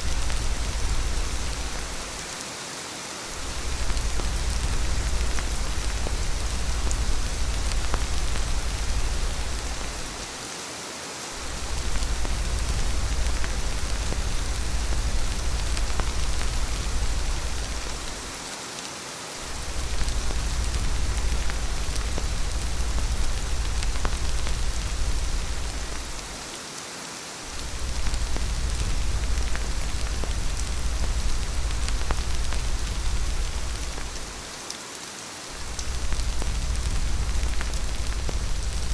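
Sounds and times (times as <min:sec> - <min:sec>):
deep low rumble: 0:00.0 - 0:02.0, 0:03.4 - 0:10.3, 0:11.4 - 0:18.3, 0:19.4 - 0:26.3, 0:27.5 - 0:34.4, 0:35.6 - 0:38.9
raindrop ticks: 0:00.0 - 0:02.3, 0:03.3 - 0:10.4, 0:11.4 - 0:18.5, 0:19.4 - 0:26.6, 0:27.4 - 0:34.8, 0:35.5 - 0:38.9
heavy rain falling: 0:00.0 - 0:38.9.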